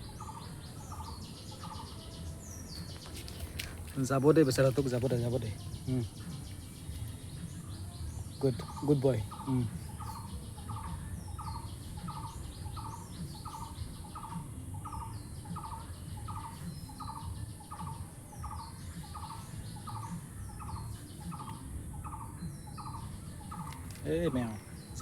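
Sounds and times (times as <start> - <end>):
higher bird chirps: 0.0 - 25.0.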